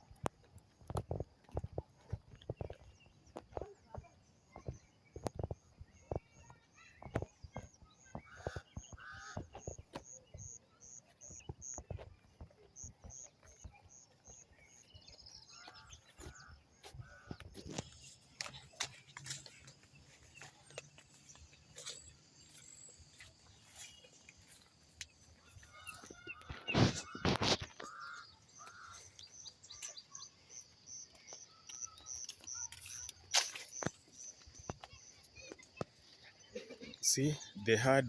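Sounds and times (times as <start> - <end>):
footsteps on street: 0.0 - 37.6
birds chirping: 0.0 - 38.0.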